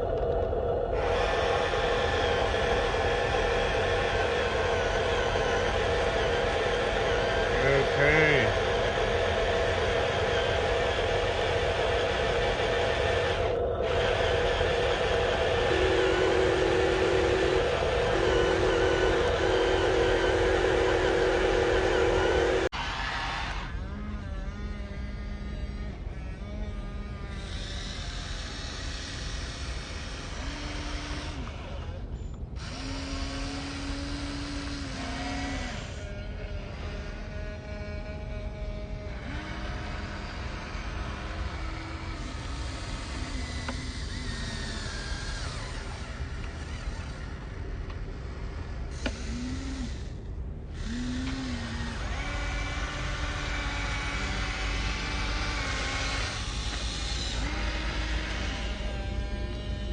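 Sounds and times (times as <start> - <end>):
low steady rumble: 0.0 - 22.7, 23.7 - 59.9
small electric motors whirring: 1.0 - 59.9.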